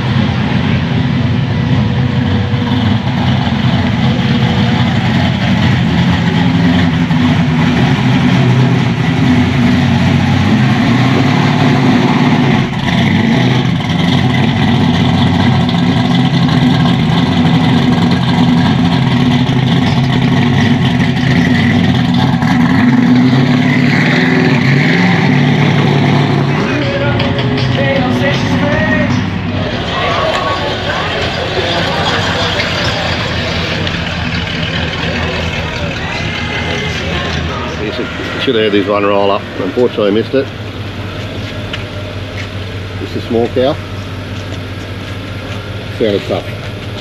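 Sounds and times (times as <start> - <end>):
car engines rumbling: 0.0 - 47.0
car passing and pulling away: 0.0 - 47.0.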